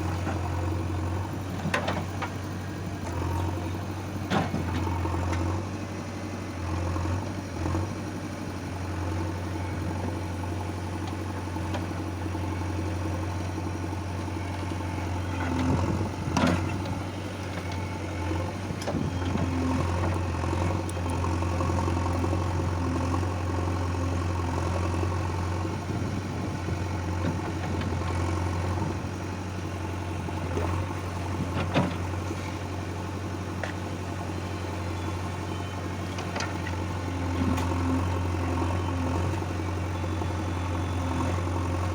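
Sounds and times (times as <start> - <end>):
diesel machinery engine idling: 0.0 - 41.9.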